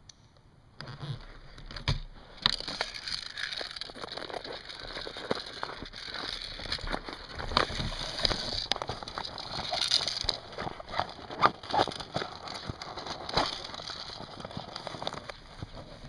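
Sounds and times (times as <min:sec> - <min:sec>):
handling clicks and knocks: 0:01.6 - 0:16.0
grass and leaves rustling: 0:02.9 - 0:16.0.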